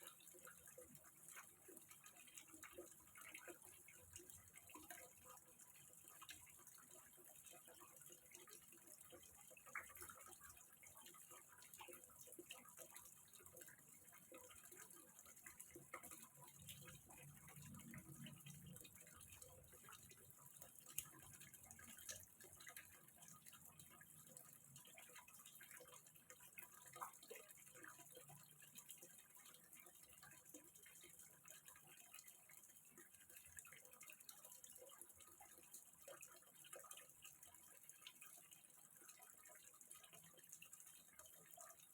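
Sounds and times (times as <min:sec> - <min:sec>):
water trickling and dripping: 0:00.0 - 0:41.9.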